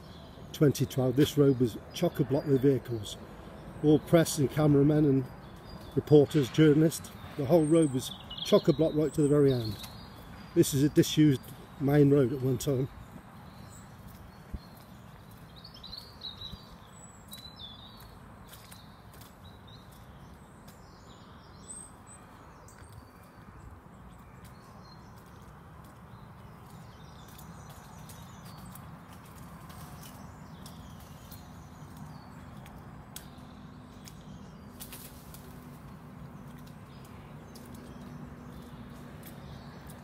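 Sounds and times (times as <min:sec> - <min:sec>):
footsteps on wet road: 0:00.0 - 0:40.0
small birds chirping: 0:00.0 - 0:40.0.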